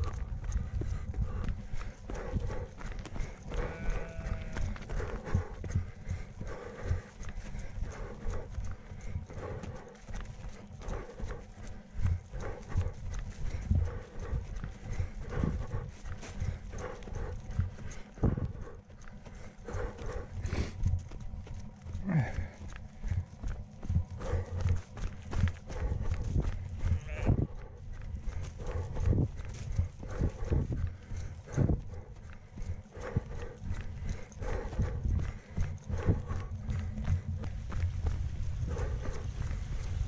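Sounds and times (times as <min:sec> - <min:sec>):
wind on microphone: 0:00.0 - 0:18.8, 0:23.4 - 0:40.0
running footsteps on stony path: 0:00.0 - 0:40.0.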